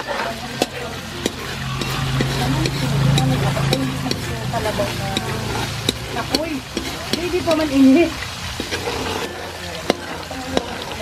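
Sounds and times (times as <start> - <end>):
coconut milk boiling and sizzling: 0.0 - 11.0
metal spoon scraping a pan: 0.0 - 11.0.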